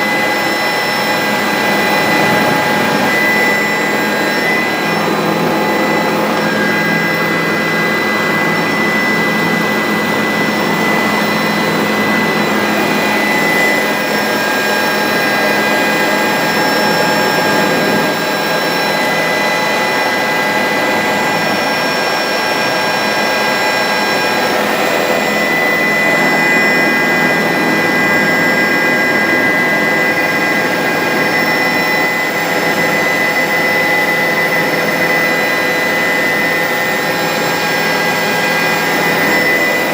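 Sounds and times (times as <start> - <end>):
helicopter engine and rotor: 0.0 - 39.9
high whine: 0.0 - 39.9.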